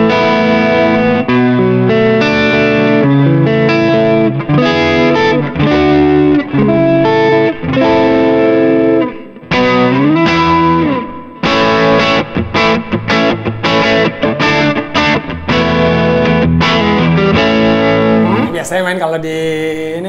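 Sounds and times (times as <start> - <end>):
overdriven electric guitar chords: 0.0 - 18.7.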